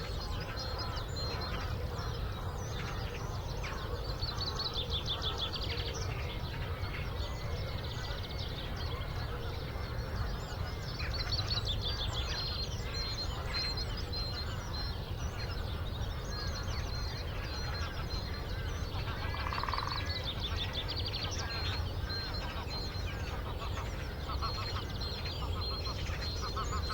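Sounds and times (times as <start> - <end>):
birds chirping and trilling: 0.0 - 26.9.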